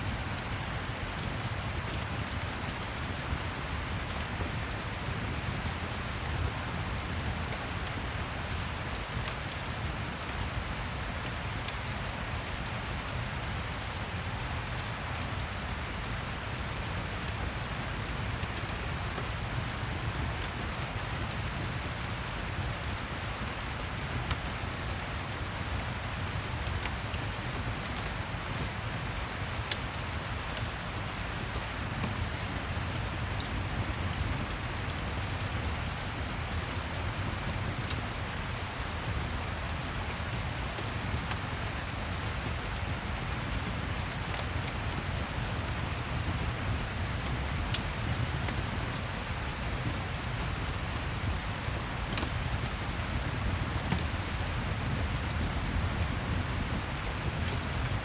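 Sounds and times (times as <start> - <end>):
steady rain: 0.0 - 58.0
fireplace crackle: 0.1 - 58.0.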